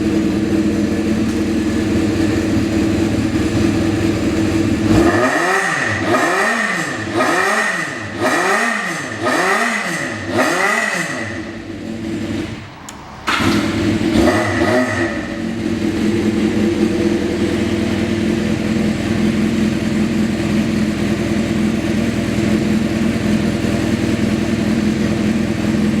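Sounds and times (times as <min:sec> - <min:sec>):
motorcycle engine idling: 0:00.0 - 0:26.0
motorcycle engine revving: 0:00.0 - 0:26.0.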